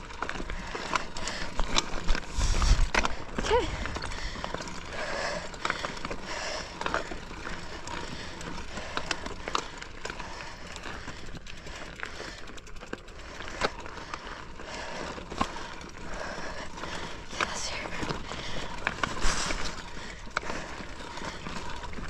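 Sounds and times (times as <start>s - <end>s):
bike clicks and rattles: 0.0s - 22.0s
bike tyres crunching over gravel: 0.0s - 22.0s.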